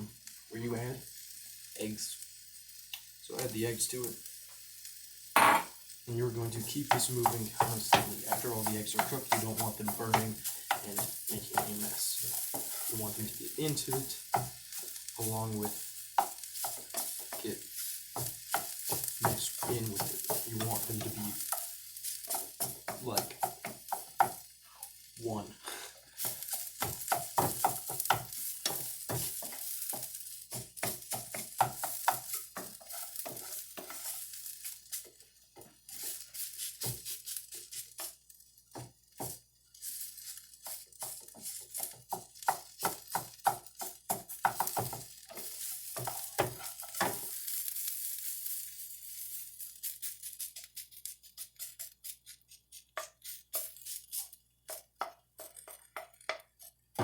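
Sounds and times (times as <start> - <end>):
food sizzling in a frying pan: 0.0 - 57.0
utensil scraping and tapping pan: 6.4 - 24.4, 25.8 - 57.0.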